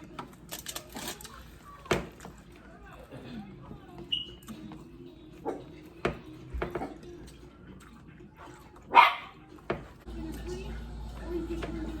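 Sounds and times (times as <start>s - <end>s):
people eating with clicks and smacks: 0.0s - 12.0s.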